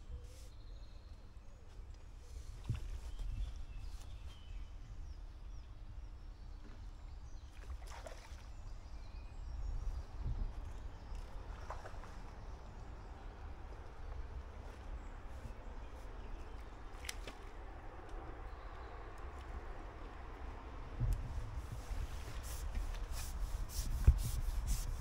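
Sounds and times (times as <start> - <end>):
wind rumble on microphone: 2.4 - 16.9, 17.6 - 25.0.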